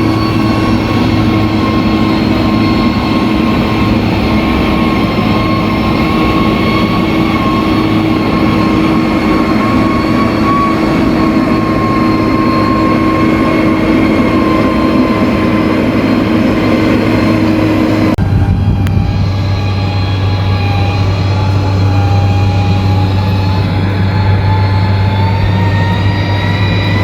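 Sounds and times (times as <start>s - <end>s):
bulldozer diesel engine running: 0.0s - 27.0s
high whine: 0.0s - 27.0s.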